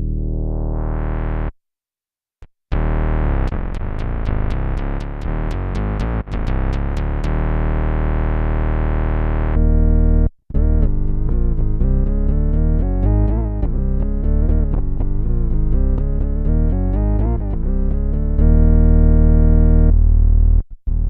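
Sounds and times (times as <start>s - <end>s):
synth bass notes: 0.0s - 1.6s, 2.7s - 21.0s.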